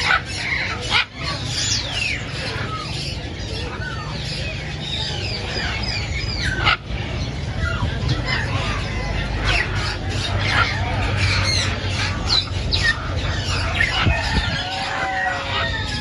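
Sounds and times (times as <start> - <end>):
caged birds chirping: 0.0 - 16.0
loud bird calls: 0.0 - 16.0.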